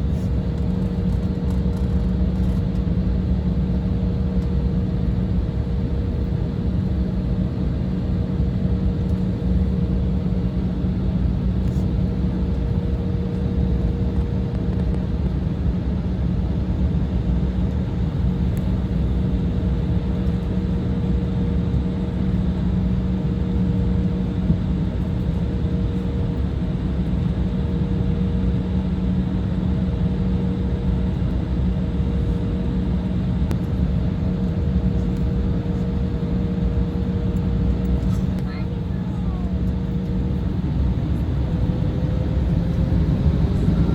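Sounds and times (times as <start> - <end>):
jet engine cabin drone: 0.0 - 43.9.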